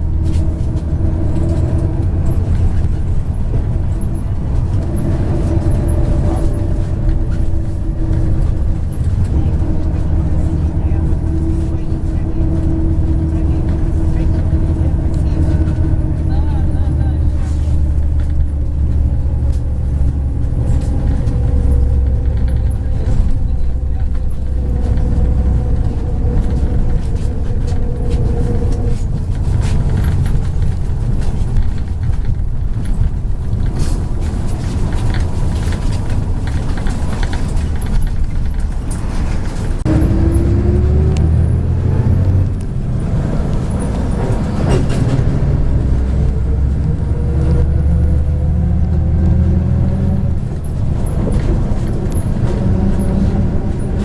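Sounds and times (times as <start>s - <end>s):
bus diesel engine drone: 0.0s - 54.0s
road rumble: 0.0s - 54.0s.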